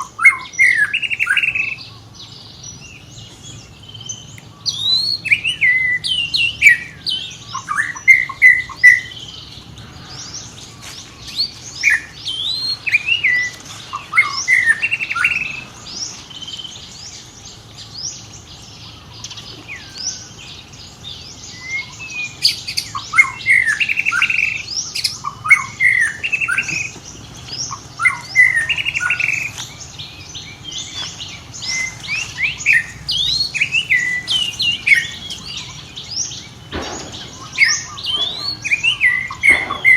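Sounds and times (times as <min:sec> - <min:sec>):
high-pitched chirping calls: 0:00.0 - 0:39.9.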